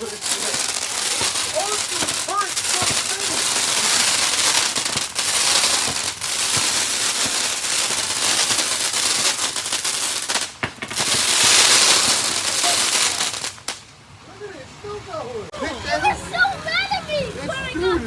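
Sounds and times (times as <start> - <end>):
fireworks crackling and hissing: 0.0 - 18.0.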